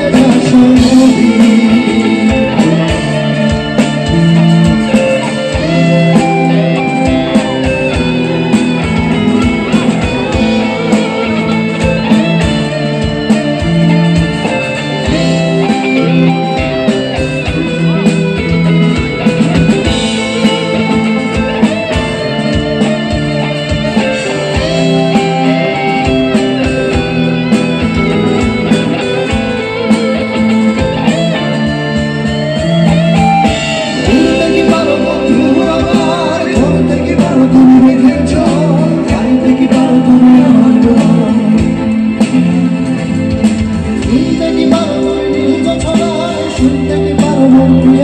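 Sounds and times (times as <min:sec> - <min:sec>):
bass: 0:00.0 - 0:48.0
drums: 0:00.0 - 0:48.0
electric guitar lead: 0:00.0 - 0:48.0.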